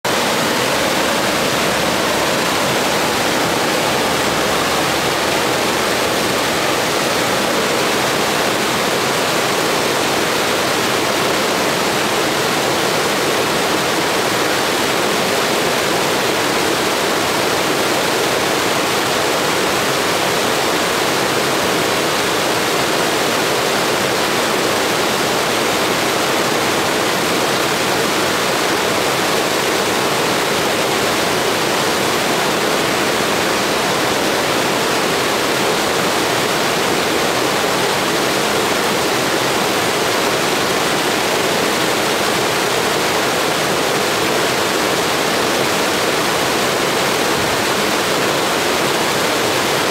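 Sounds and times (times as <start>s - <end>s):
stream rushing over boulders: 0.0s - 49.9s.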